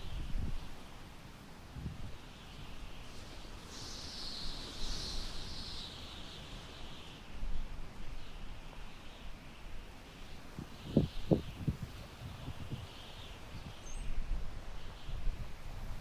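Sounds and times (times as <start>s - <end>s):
wind rustling tall grass: 0.0s - 16.0s.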